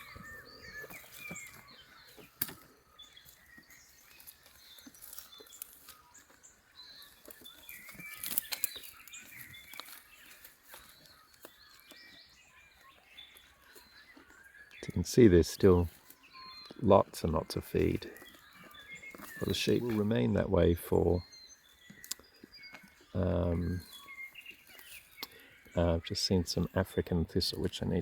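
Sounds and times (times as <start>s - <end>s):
rustles: 0.0s - 16.8s, 17.6s - 25.7s
birds chirping: 0.0s - 28.0s.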